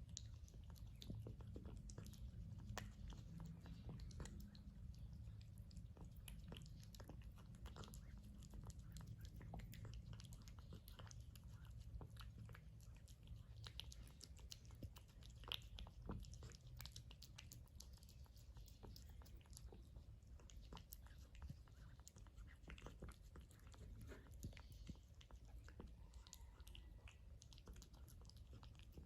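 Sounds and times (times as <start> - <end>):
cat chewing wet food: 0.0 - 29.0
low steady hum: 0.0 - 29.0.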